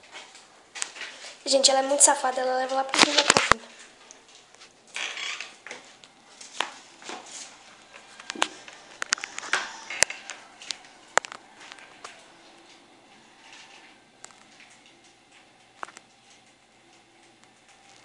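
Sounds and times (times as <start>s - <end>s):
guinea pigs crunching vegetables: 0.0s - 18.0s.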